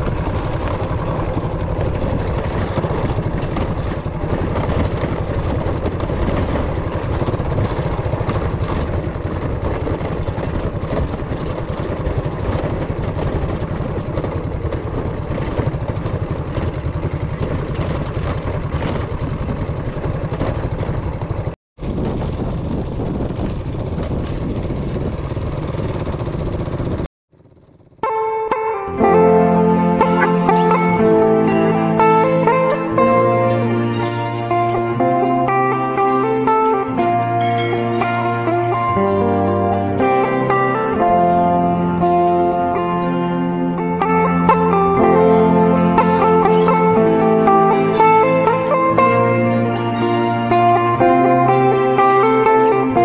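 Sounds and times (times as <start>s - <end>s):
engine running with fast pulse: 0.0s - 53.0s.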